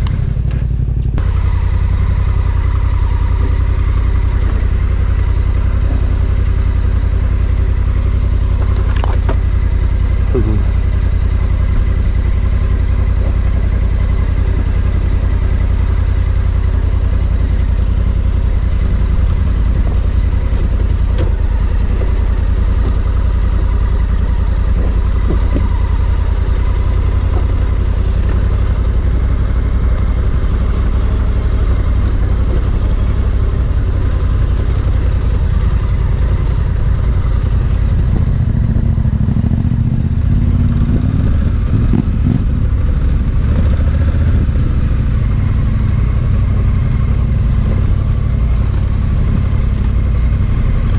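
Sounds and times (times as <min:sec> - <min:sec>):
motorcycle engine rumbling: 0:00.0 - 0:50.9.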